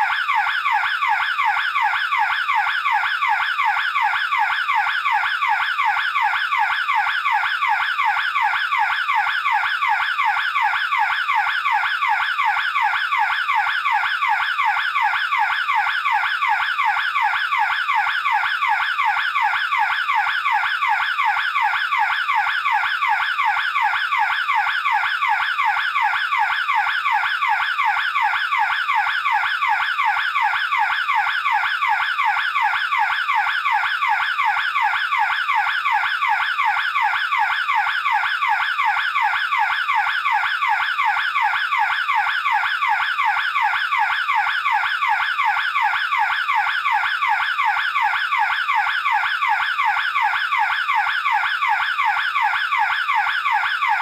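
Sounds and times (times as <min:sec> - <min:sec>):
burglar alarm siren: 0:00.0 - 0:54.0.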